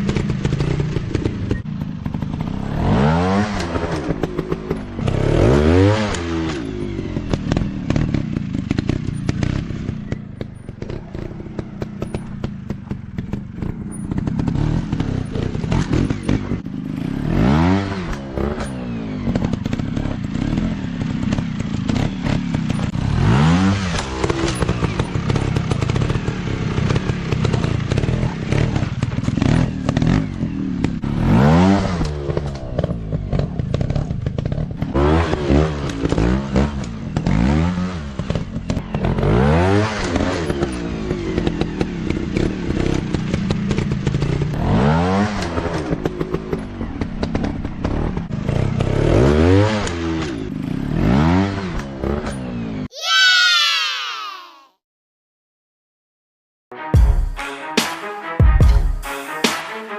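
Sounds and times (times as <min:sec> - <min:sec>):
dirt bike engines revving: 0:00.0 - 0:54.5.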